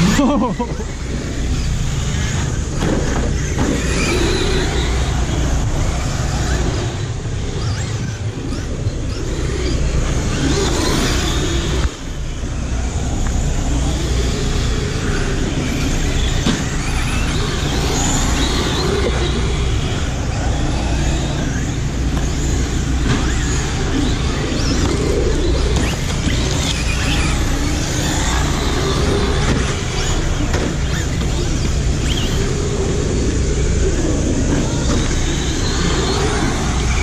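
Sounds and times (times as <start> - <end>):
radio-controlled car motors: 0.0 - 37.0.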